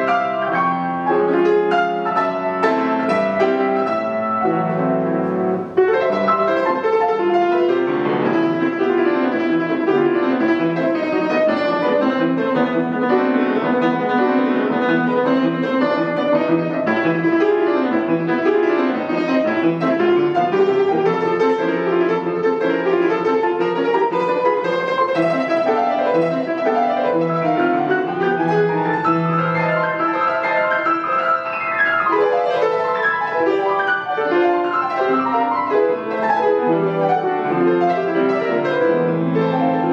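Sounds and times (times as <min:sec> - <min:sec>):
classical piano piece: 0:00.0 - 0:39.9.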